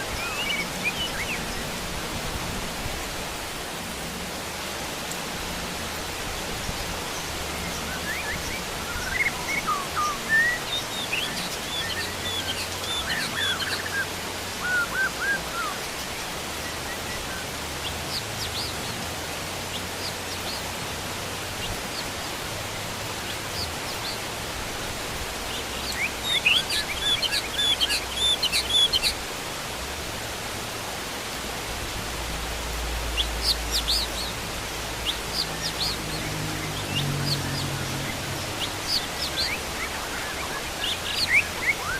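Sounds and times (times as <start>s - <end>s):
birds calling and chirping: 0.0s - 2.2s, 5.7s - 29.4s, 32.5s - 41.9s
heavy rain: 0.0s - 41.9s.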